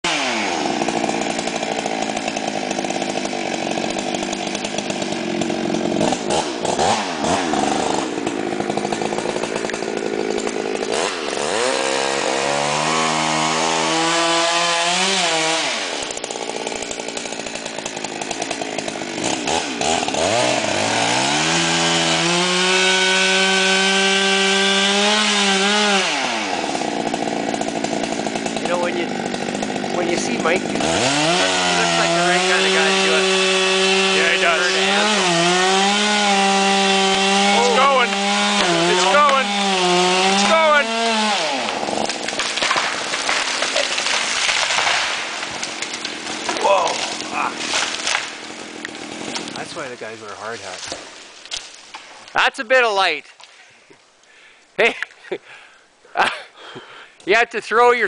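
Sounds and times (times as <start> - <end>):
chainsaw cutting tree: 0.0 - 52.4.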